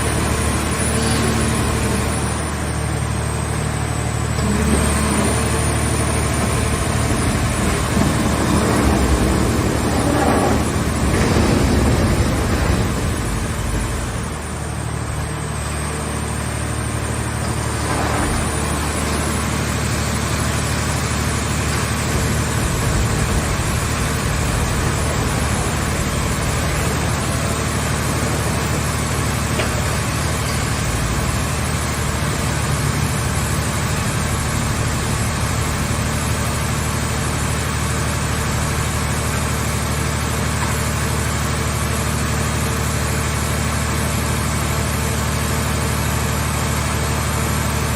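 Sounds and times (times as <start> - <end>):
baler engine running steadily: 0.0 - 47.9.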